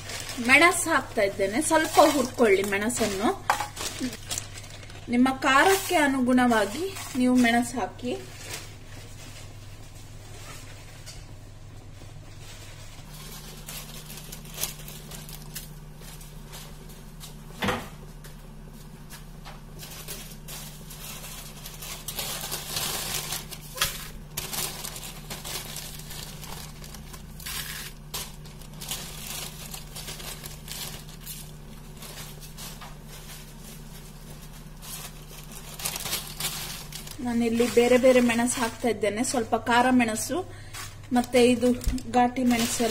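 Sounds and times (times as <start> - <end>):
dried chillies crackling in pan: 0.0 - 9.5, 12.4 - 17.3, 19.7 - 39.4, 41.1 - 42.9
low hum: 0.0 - 42.9.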